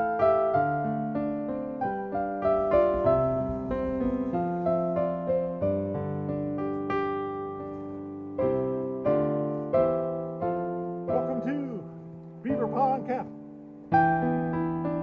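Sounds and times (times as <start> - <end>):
slow solo piano melody: 0.0 - 15.0.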